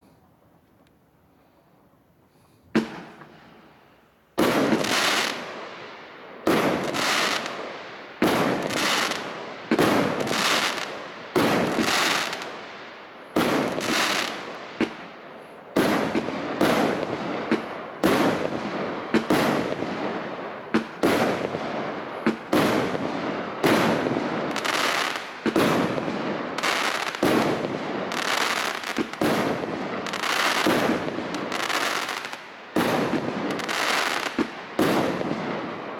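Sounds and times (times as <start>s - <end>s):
firework shells bursting and crackling: 4.4s - 5.8s, 6.4s - 35.9s.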